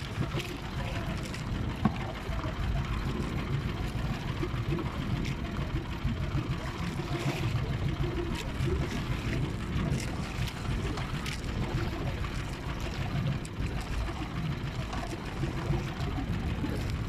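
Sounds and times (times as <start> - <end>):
water washing against boat: 0.0 - 17.0.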